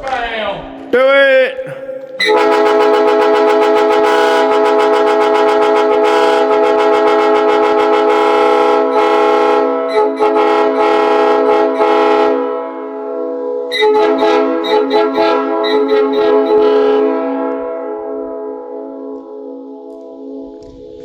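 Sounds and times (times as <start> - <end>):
air horn chord and blasts: 2.2 - 20.8.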